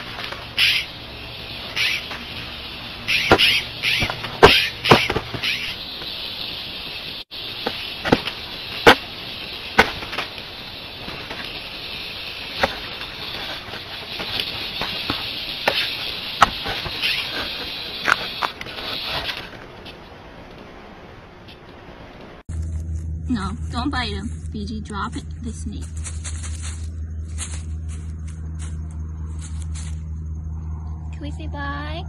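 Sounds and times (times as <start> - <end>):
insect chorus: 0.0 - 19.5, 25.8 - 32.0.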